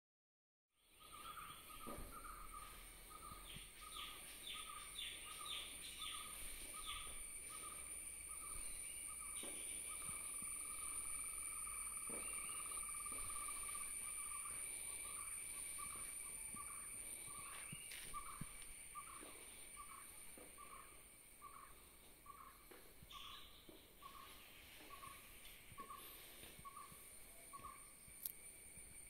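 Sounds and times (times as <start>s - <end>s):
high insect drone: 0.8s - 29.0s.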